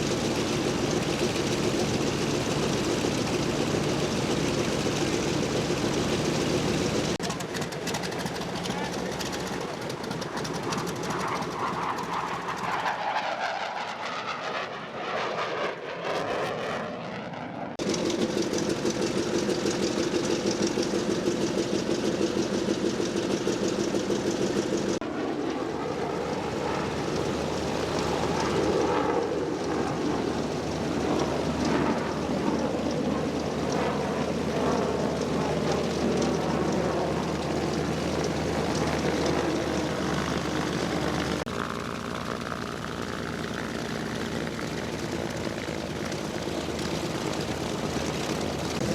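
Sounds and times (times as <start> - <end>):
propeller plane engines droning: 0.0 - 48.9.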